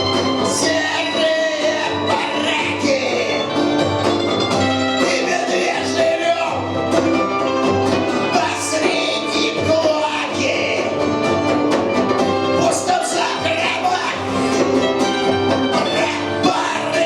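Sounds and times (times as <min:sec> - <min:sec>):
bass guitar: 0:00.0 - 0:17.0
drums: 0:00.0 - 0:17.0
electric guitars: 0:00.0 - 0:17.0.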